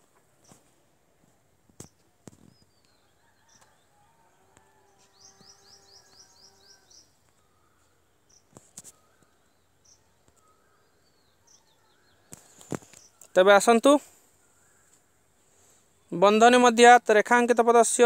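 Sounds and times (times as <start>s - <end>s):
bird chirps: 1.8s - 16.4s.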